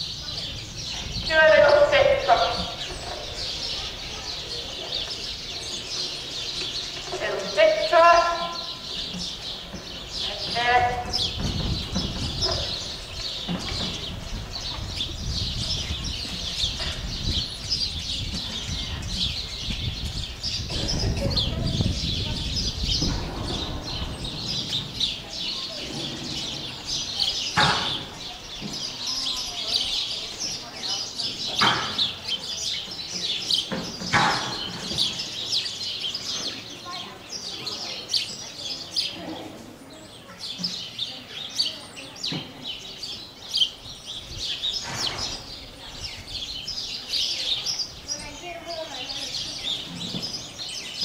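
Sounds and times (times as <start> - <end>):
small birds chirping chorus: 0.0 - 51.0.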